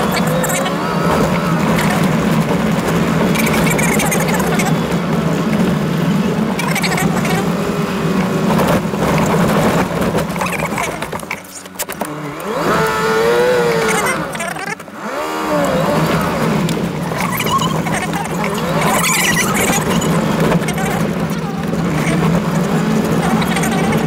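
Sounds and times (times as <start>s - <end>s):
tyres on gravel: 0.0s - 24.0s
vehicle engine drone: 0.0s - 24.0s.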